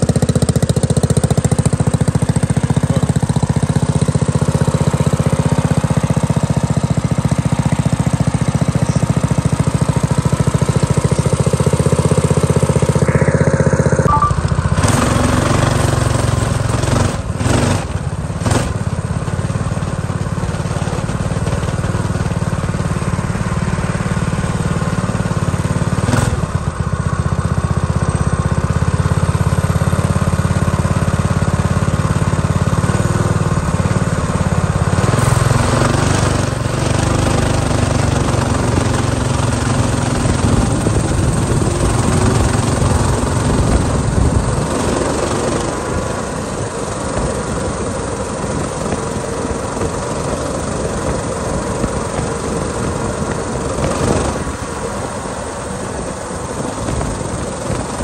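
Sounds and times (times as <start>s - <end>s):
minibike engine running: 0.0s - 58.0s.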